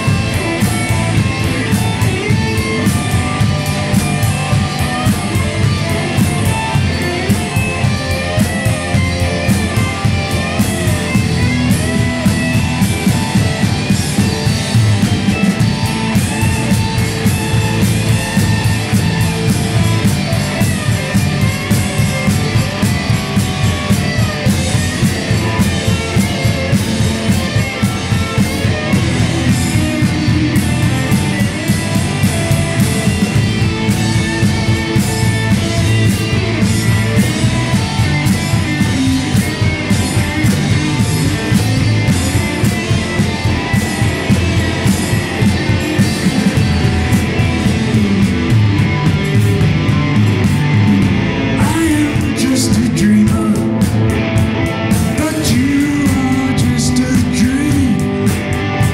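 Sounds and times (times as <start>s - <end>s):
drum and cymbal hits: 0.0s - 58.9s
electric guitar: 0.0s - 58.9s
rock band playing live: 0.0s - 58.9s.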